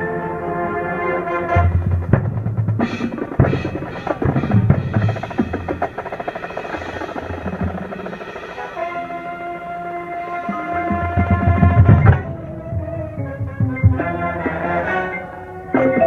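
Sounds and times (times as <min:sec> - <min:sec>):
marching band held chord: 0:00.0 - 0:16.0
drum strikes and rolls: 0:01.6 - 0:14.8.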